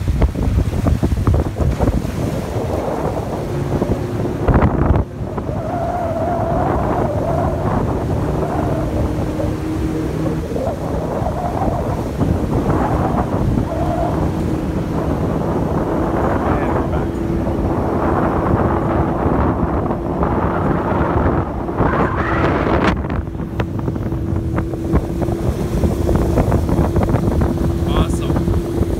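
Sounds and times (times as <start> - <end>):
boat motor running: 0.0 - 28.9
rushing water: 0.0 - 28.9
wind buffeting microphone: 0.0 - 28.9.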